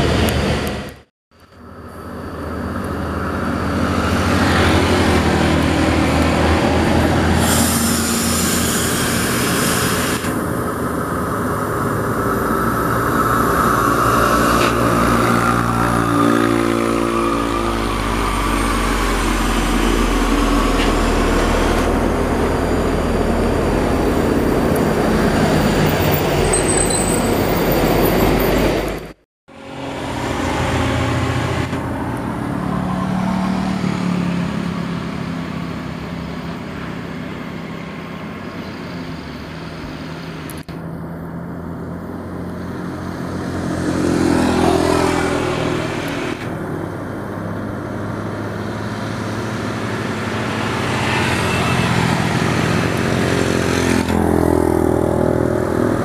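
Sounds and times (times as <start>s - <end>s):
tanker truck engine pulling uphill: 0.0s - 56.0s
truck diesel engine labouring uphill: 0.0s - 56.0s.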